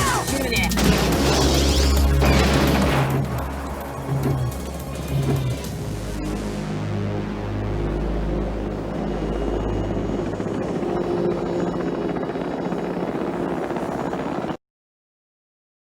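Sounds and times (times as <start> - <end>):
helicopter flying: 0.0 - 14.6.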